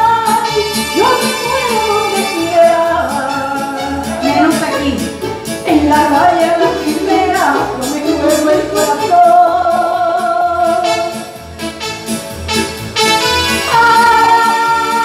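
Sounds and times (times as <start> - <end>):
woman singing into a microphone: 0.0 - 11.1, 13.6 - 15.0.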